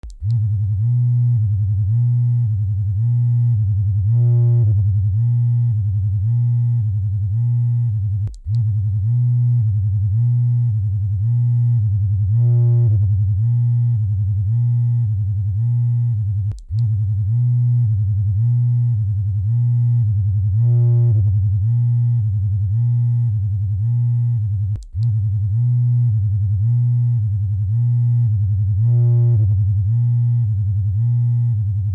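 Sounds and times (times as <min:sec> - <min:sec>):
vibrator motor buzzing: 0:00.0 - 0:31.9.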